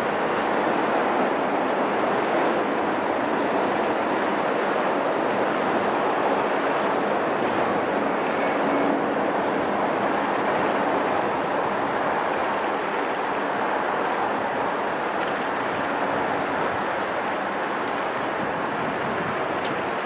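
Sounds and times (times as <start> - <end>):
distant jet engines rushing: 0.0 - 20.0.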